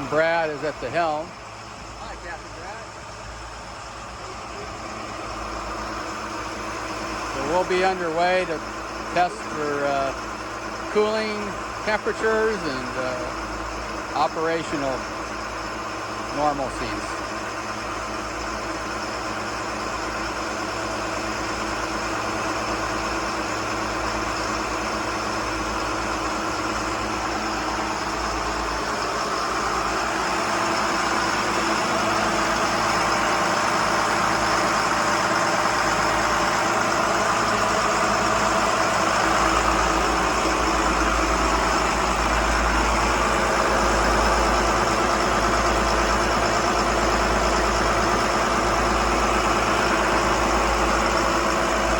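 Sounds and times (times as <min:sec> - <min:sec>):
boat engines droning: 0:00.0 - 0:51.9.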